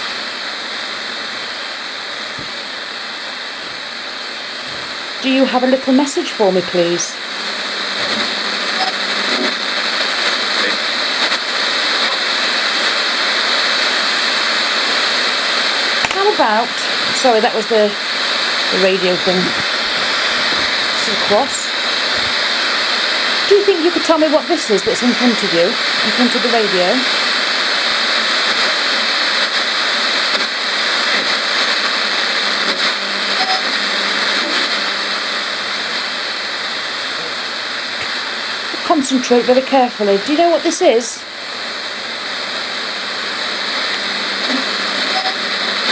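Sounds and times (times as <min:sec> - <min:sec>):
faint radio tone fragments: 0:00.0 - 0:45.9
radio static hissing: 0:00.0 - 0:45.9.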